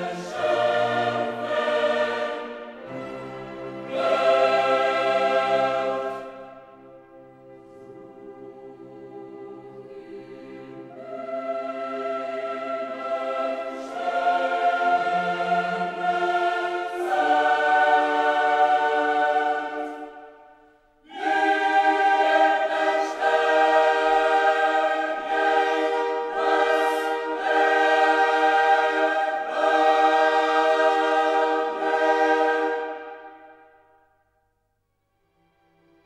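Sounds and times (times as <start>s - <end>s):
slow choir-like chords: 0.0s - 34.5s.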